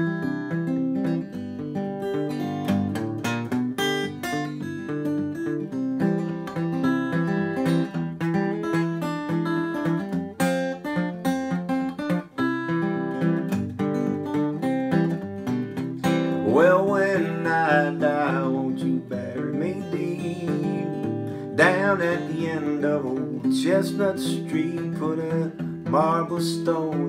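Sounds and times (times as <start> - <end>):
fingerpicked acoustic guitar: 0.0 - 27.0.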